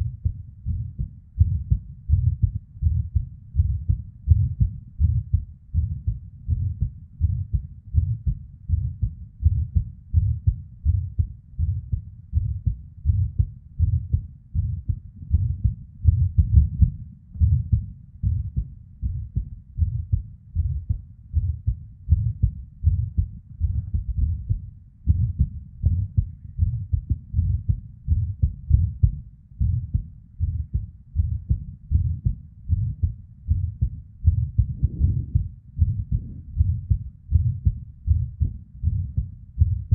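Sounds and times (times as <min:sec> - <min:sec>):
heart beating: 0:00.0 - 0:39.9.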